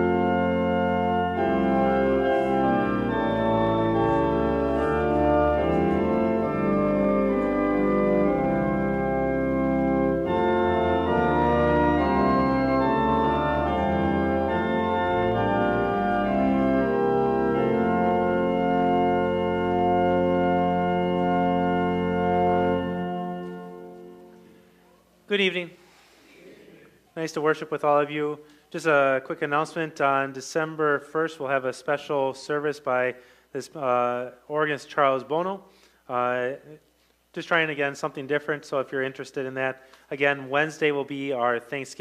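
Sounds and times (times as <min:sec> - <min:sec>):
church organ playing chords: 0:00.0 - 0:25.7, 0:27.2 - 0:36.6.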